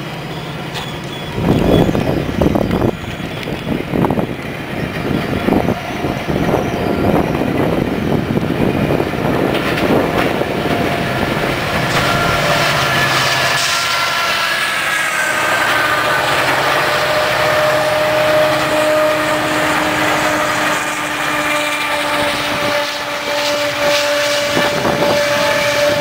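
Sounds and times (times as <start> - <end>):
train wheels clattering over rails: 0.0 - 26.0.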